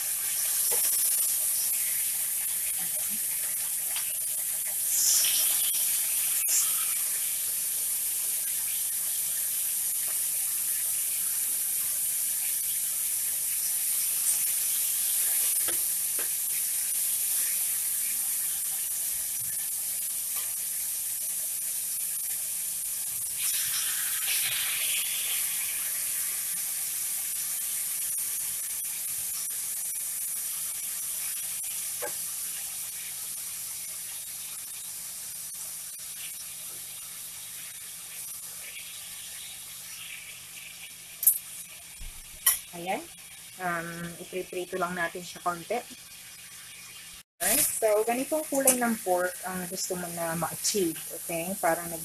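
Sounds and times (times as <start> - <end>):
meat sizzling in a pan: 0.0 - 52.0.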